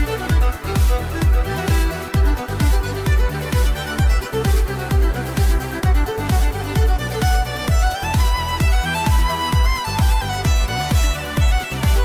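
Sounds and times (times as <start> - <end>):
electronic dance music: 0.0 - 12.0
steady kick drum: 0.0 - 12.0.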